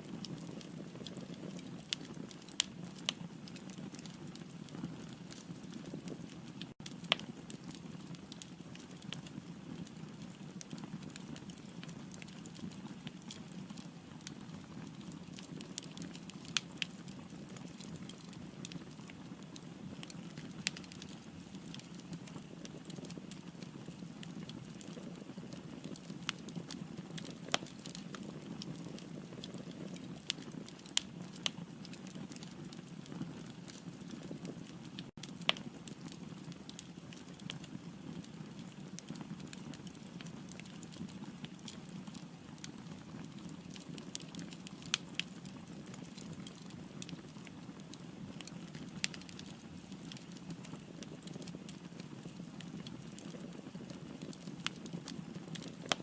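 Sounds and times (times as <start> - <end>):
fire crackles and pops: 0.0 - 56.0
firewood burning: 0.0 - 56.0.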